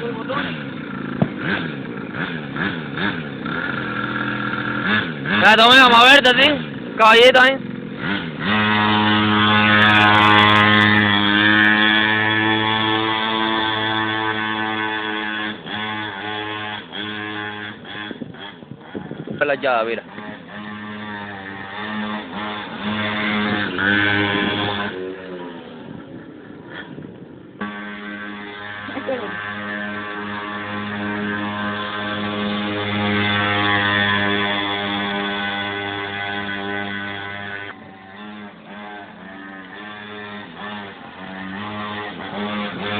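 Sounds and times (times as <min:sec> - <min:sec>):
small motorbike engine at high revs: 0:00.0 - 0:42.9.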